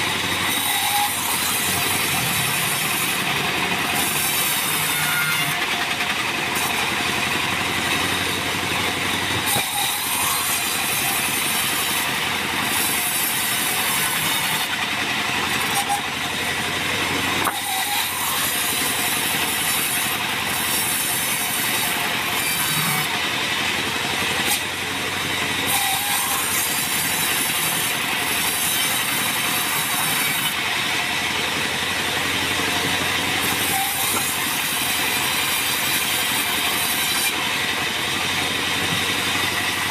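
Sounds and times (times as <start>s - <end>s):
bandsaw mill cutting log: 0.0s - 39.9s.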